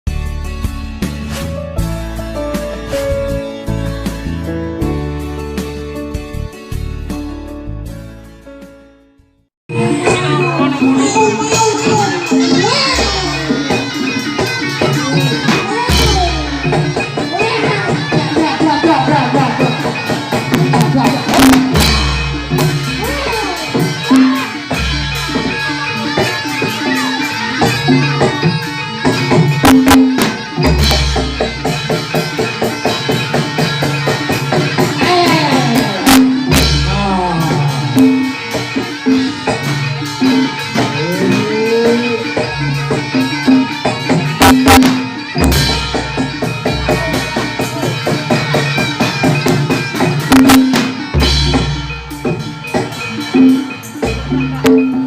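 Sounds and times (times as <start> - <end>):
deep beats: 9.7 - 32.5, 33.4 - 55.0
fast drumming: 9.7 - 55.0
gamelan music: 9.7 - 55.0.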